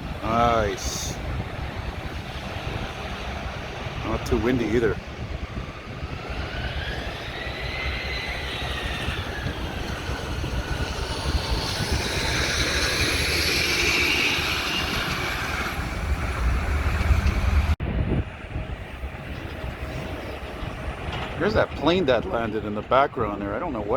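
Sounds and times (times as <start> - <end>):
jet airliner passing overhead: 0.0 - 23.9
wind rumble on microphone: 0.0 - 23.9.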